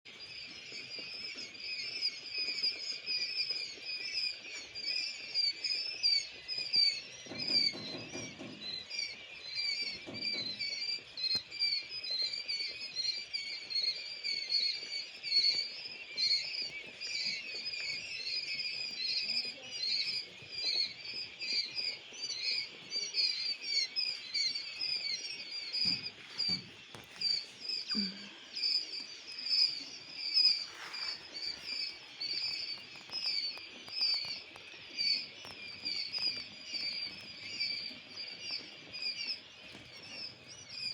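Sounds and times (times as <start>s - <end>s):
quail chicks peeping: 0.1s - 40.9s.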